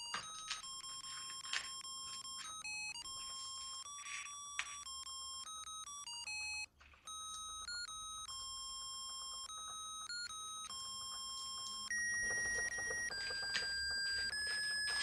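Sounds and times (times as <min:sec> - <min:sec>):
electronic beeping melody: 0:00.0 - 0:15.0.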